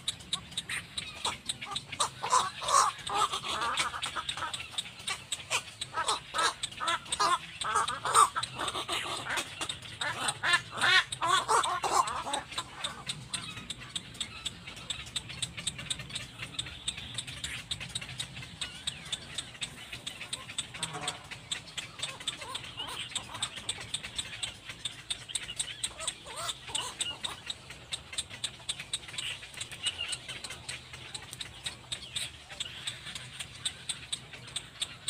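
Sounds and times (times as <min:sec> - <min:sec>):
cormorants calling: 0:00.0 - 0:35.0
faint clicks: 0:00.0 - 0:35.0.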